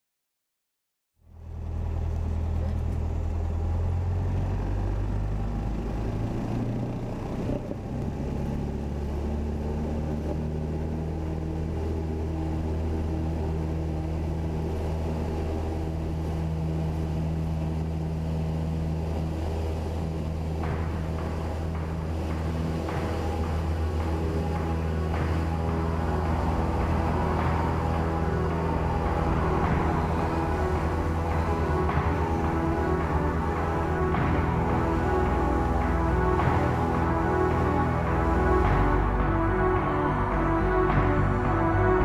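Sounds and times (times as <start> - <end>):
light aircraft engine and propeller: 1.2 - 42.0.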